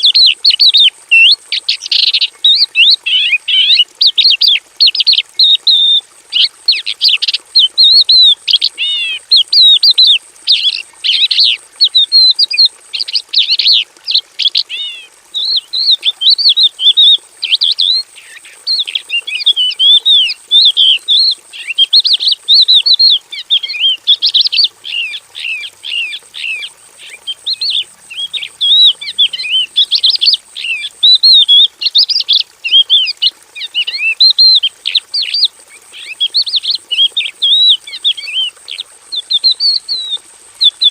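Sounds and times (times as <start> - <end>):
bush lark singing whistles and chirps: 0.0 - 40.9.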